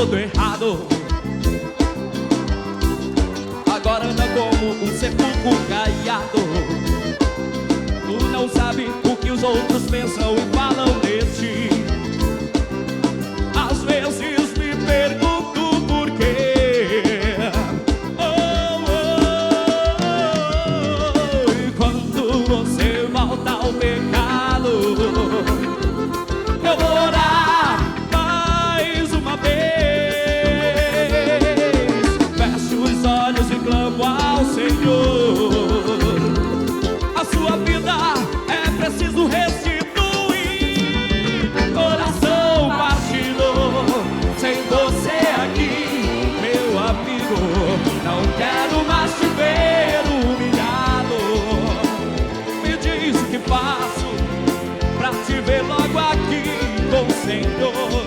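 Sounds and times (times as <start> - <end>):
accordion: 0.0 - 58.0
bass: 0.0 - 58.0
drums and percussion beat: 0.0 - 58.0
keyboard melody: 0.0 - 58.0
brass: 8.2 - 58.0.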